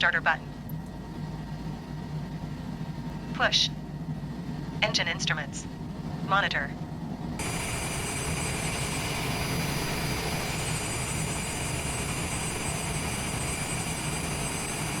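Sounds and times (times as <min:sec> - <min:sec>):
jet engines idling: 0:00.1 - 0:15.0.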